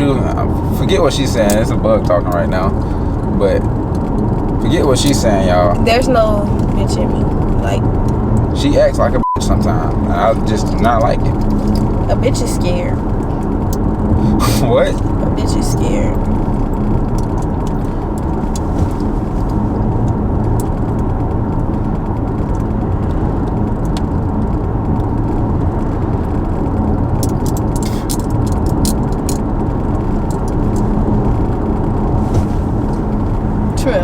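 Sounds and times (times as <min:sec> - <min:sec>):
car cabin road and engine noise: 0:00.0 - 0:34.0.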